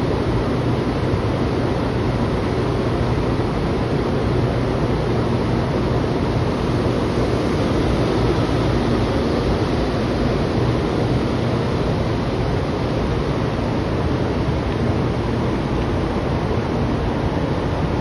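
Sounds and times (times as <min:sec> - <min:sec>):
train air conditioning fans hum: 0:00.0 - 0:18.0.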